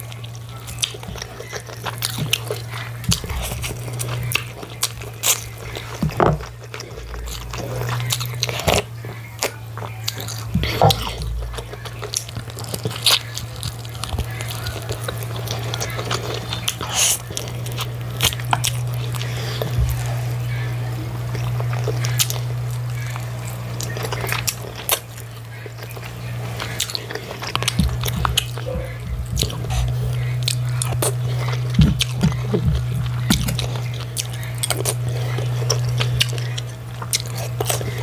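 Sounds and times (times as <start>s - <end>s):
person chewing food: 0.0s - 38.0s
steady low hum: 0.0s - 38.0s.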